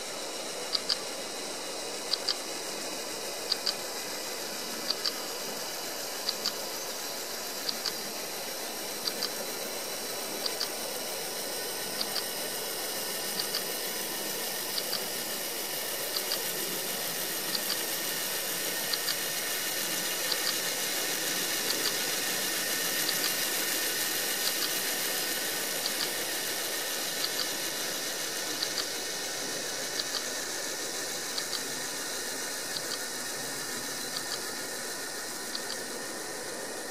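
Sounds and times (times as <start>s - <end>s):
steady hiss: 0.0s - 36.9s.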